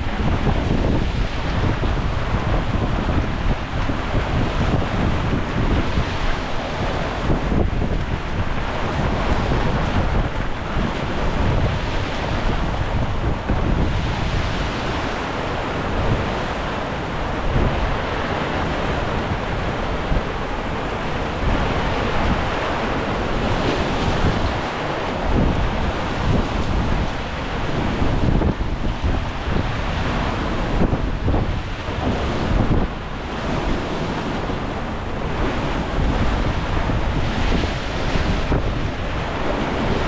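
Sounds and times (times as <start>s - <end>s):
sea waves rushing: 0.0s - 40.0s
wind buffeting microphone: 0.0s - 40.0s.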